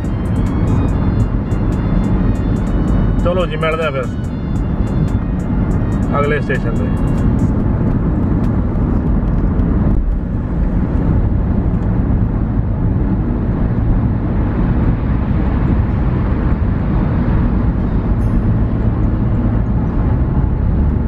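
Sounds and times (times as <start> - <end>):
car driving interior noise: 0.0 - 21.0.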